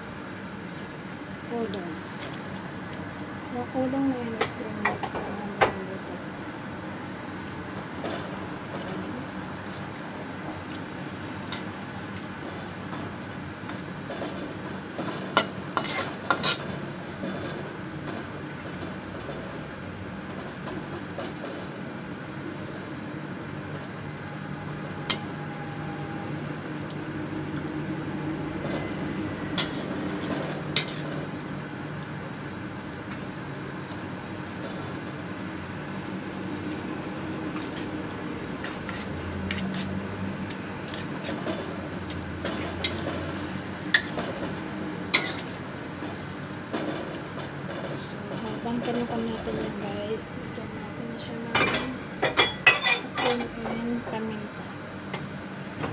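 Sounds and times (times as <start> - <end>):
food sizzling in a wok: 0.0 - 47.7.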